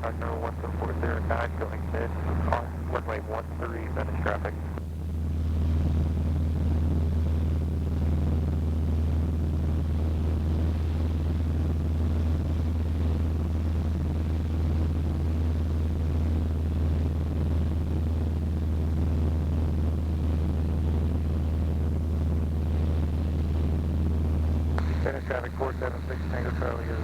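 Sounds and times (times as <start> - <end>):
airplane engine and propeller droning: 0.0 - 27.0.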